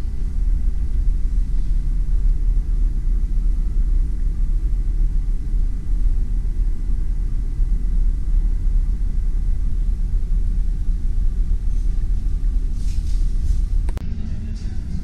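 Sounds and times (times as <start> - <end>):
faint steady hum: 0.0 - 15.0
low machinery rumble: 0.0 - 15.0.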